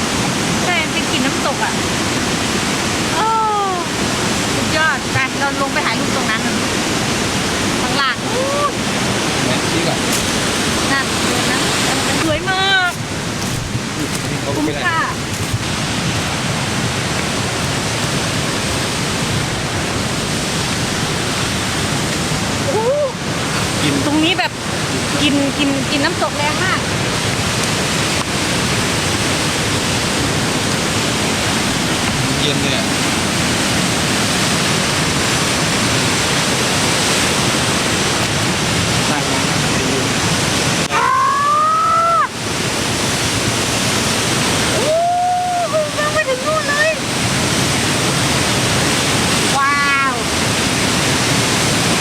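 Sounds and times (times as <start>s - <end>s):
waterfall rushing through rocks: 0.0s - 52.0s.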